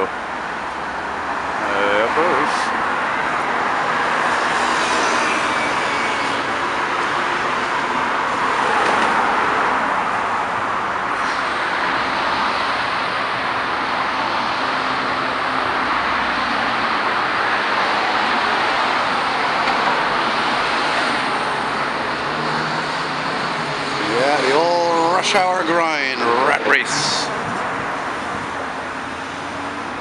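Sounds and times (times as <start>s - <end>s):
passing cars and trucks hum: 0.0s - 30.0s.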